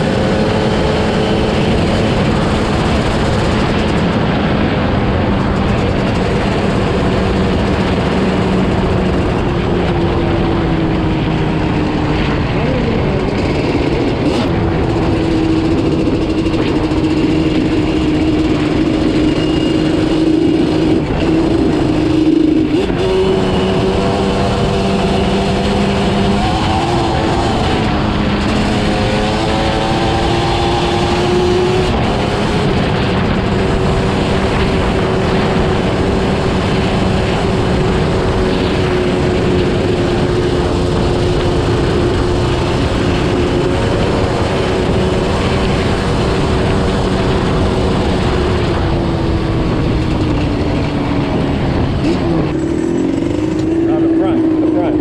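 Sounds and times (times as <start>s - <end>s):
two-stroke engine running: 0.0s - 55.0s
wind noise: 0.0s - 55.0s.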